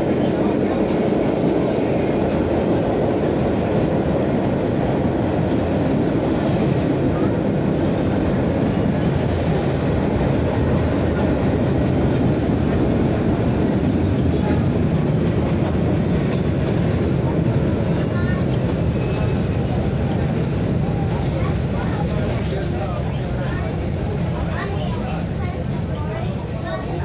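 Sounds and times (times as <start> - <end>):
subway train wheels on rails: 0.0 - 27.0.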